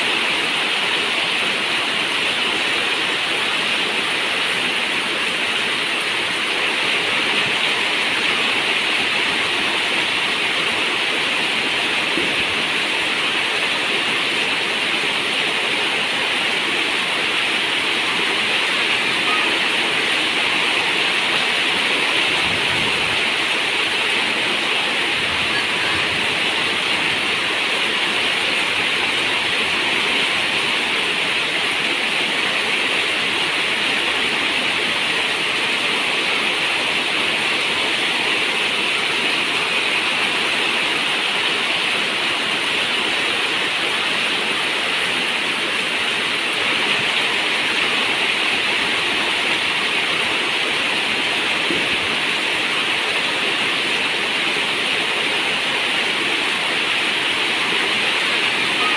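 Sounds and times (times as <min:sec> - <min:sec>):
heavy rain pouring: 0:00.0 - 0:58.9.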